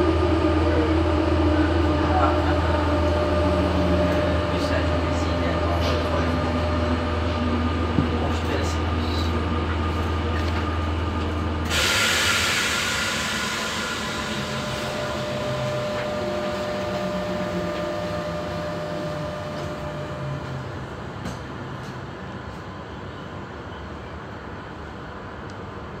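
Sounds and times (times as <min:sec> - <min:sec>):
train running rumble: 0:00.0 - 0:26.0.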